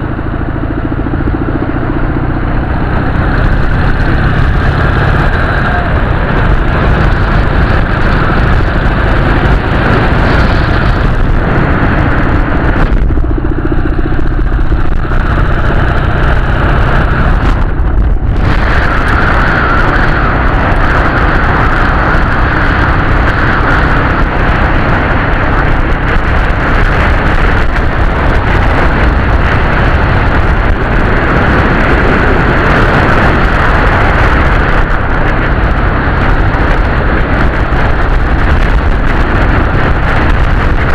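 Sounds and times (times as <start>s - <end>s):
motorcycle engine and road noise: 0.0s - 40.9s.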